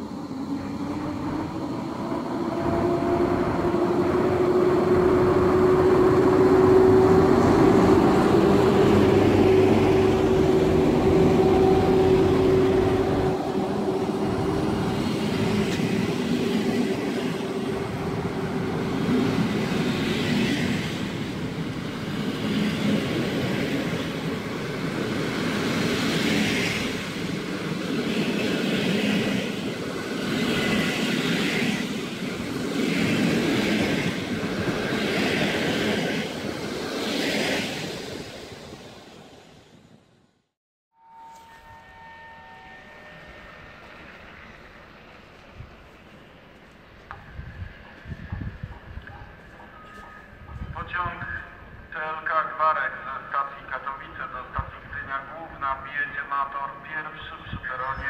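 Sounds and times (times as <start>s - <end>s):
electric locomotive humming past: 0.0s - 40.0s, 41.0s - 58.0s.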